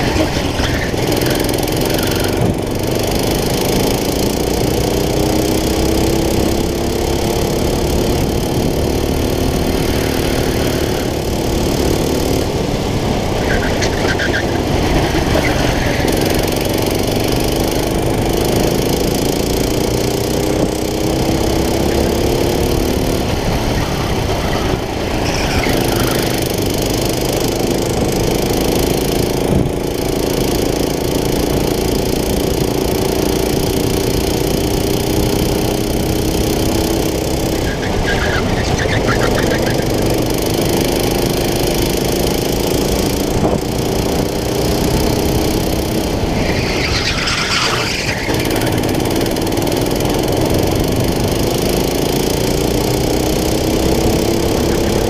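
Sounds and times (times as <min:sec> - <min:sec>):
kart engine revving: 0:00.0 - 0:55.0
wind and track noise: 0:00.0 - 0:55.0.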